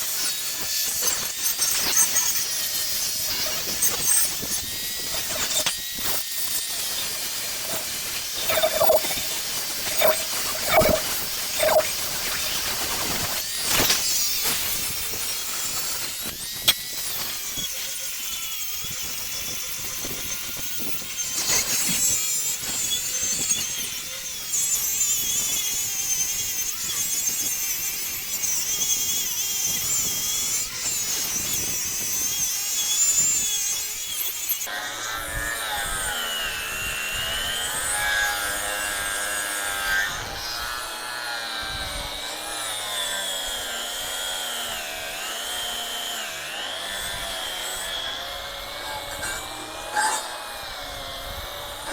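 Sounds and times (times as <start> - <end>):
power tool grinding steel: 0.0 - 51.9.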